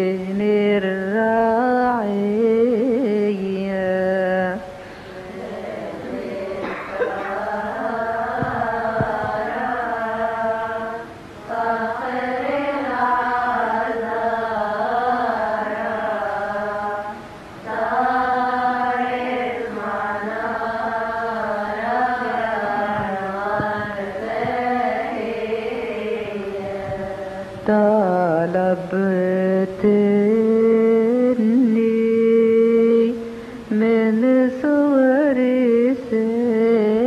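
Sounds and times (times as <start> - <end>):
woman chanting a hymn: 0.0 - 37.0.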